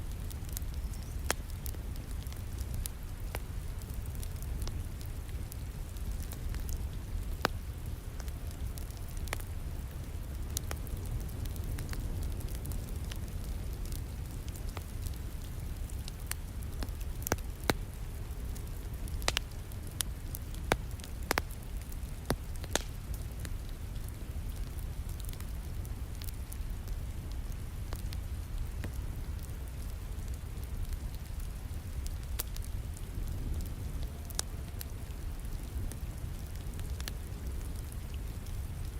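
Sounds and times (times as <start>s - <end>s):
rain falling: 0.0s - 38.9s
wood fire crackling: 0.0s - 38.9s.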